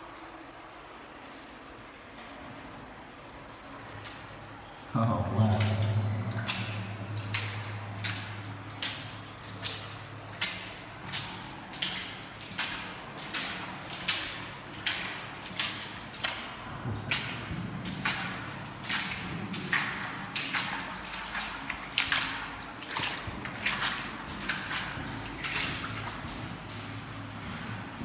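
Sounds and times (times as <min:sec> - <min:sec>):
footsteps splashing in shallow water: 0:02.4 - 0:28.0.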